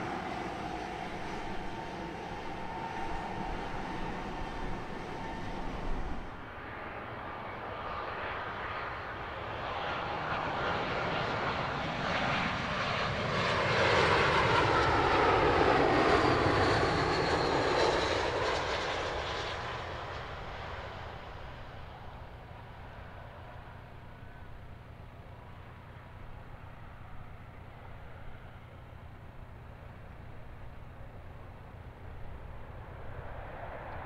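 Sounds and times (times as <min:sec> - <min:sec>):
jet airliner passing by: 0:00.0 - 0:34.0.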